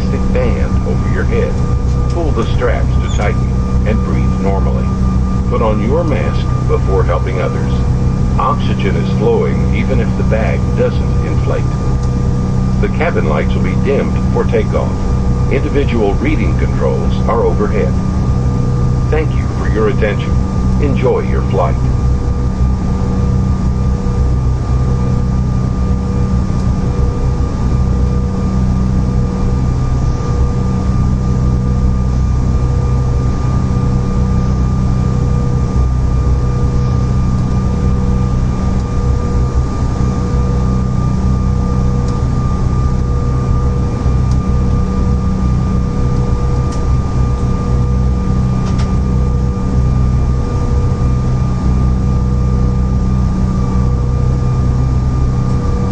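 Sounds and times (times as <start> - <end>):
jet engine cabin rumble: 0.0 - 55.9
thin engine whine: 0.0 - 55.9.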